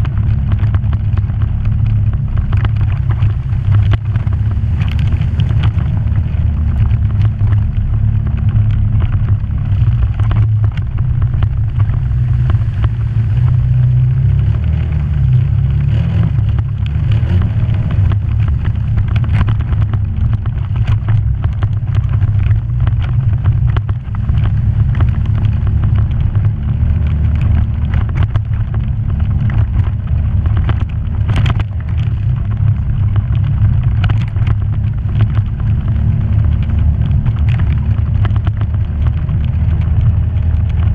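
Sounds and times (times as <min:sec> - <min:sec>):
knocks and rattles: 0:00.0 - 0:40.9
off-road vehicle engine: 0:00.0 - 0:40.9.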